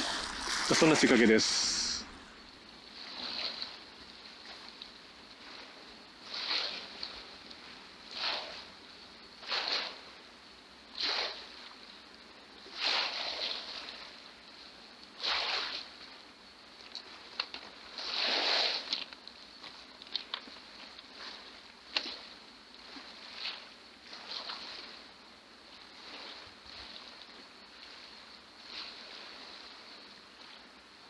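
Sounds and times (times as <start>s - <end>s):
small waves washing on shore: 0.0s - 31.0s.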